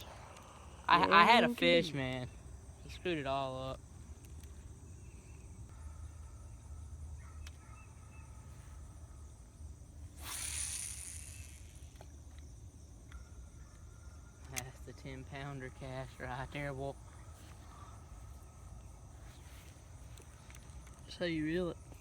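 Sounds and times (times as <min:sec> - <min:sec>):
crickets and insects chirring: 0:00.0 - 0:22.0.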